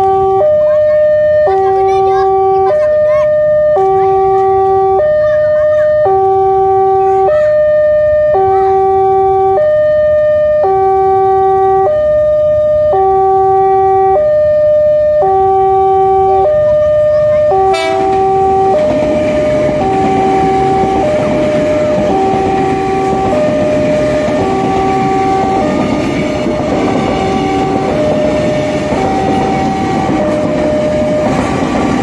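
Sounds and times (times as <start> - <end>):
electric train approaching: 0.0 - 32.0
level crossing alarm two-tone: 0.0 - 32.0.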